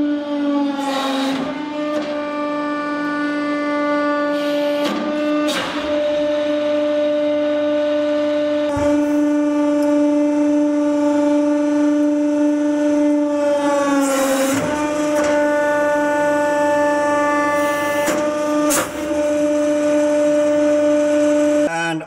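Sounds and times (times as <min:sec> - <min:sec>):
hydraulic pump droning: 0:00.0 - 0:21.9.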